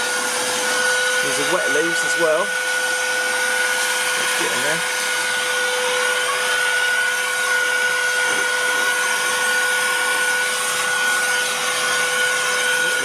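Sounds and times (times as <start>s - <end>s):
air duster blower whining: 0.0s - 13.0s.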